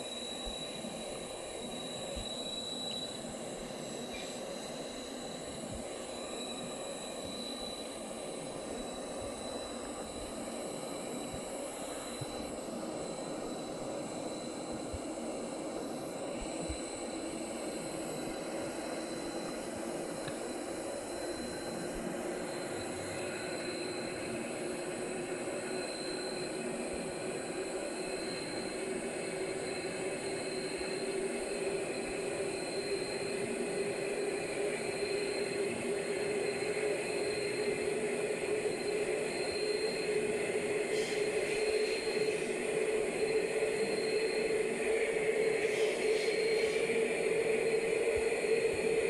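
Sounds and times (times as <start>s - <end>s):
jet engines humming: 0.0s - 49.0s.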